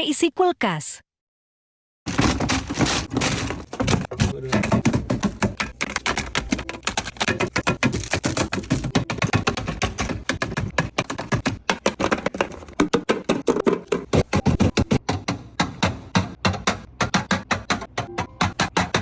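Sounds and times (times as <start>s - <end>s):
plastic containers clacking: 2.1s - 19.0s.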